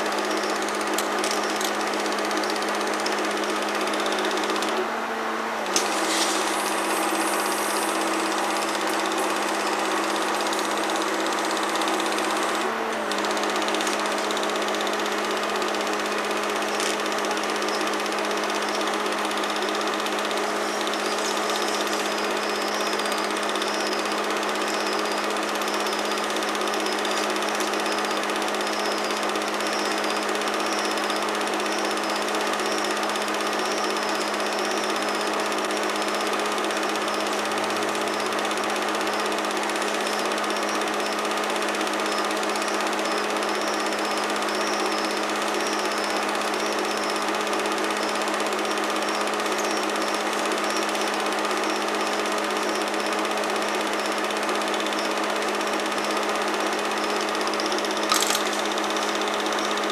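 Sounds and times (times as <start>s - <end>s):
fast mechanical clatter: 0.0s - 4.8s, 5.6s - 59.9s
projector motor hum: 0.0s - 59.9s.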